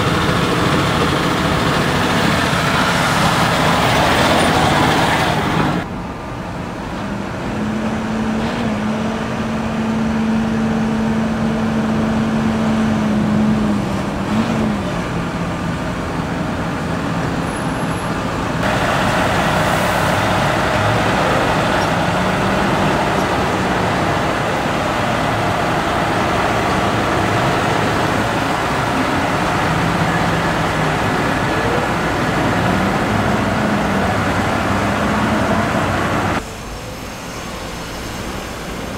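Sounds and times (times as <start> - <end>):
tractor diesel engines running: 0.0 - 38.9.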